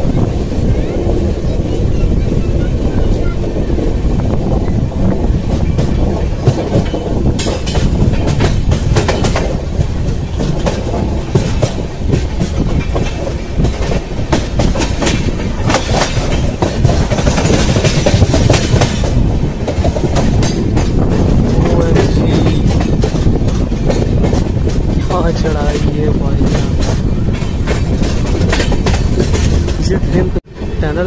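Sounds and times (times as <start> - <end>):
train wheels rumbling: 0.0 - 31.0
wheels clacking over rail joints: 0.0 - 31.0.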